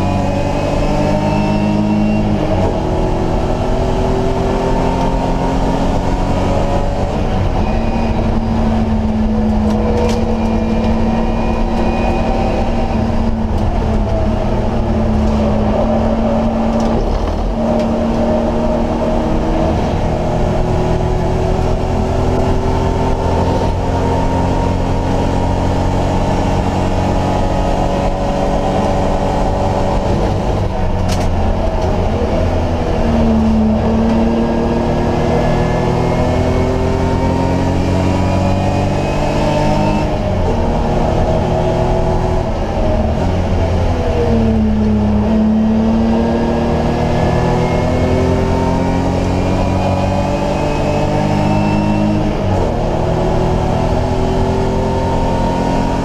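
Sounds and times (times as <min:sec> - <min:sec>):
race car engine revving: 0:00.0 - 0:56.0
road and tyre noise: 0:00.0 - 0:56.0.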